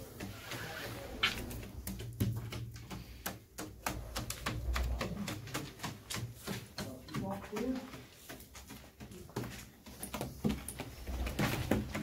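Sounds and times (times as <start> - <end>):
pigeon claws clicking on wood: 0.0 - 12.0.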